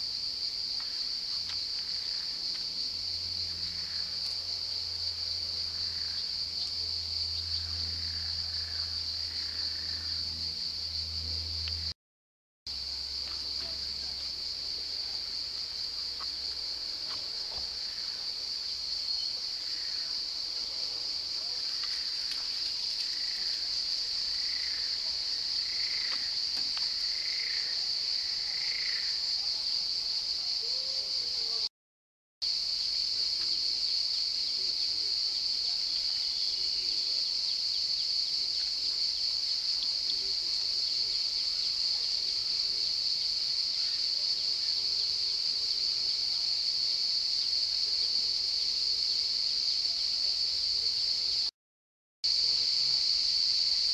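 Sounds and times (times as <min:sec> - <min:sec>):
cicadas droning: 0:00.0 - 0:11.9, 0:12.7 - 0:31.7, 0:32.4 - 0:51.5, 0:52.3 - 0:53.9.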